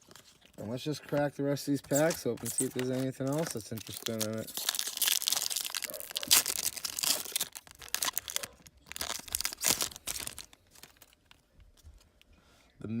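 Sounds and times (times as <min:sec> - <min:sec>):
card pack wrapper tearing and crinkling: 0:01.7 - 0:12.2.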